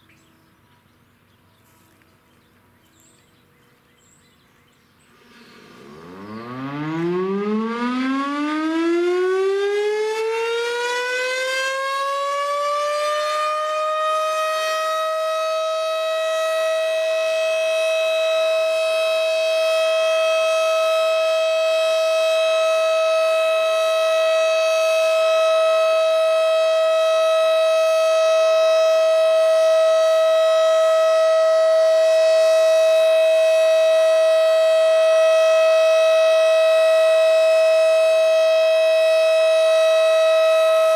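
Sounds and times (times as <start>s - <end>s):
outdoor warning siren winding up: 5.2s - 40.9s.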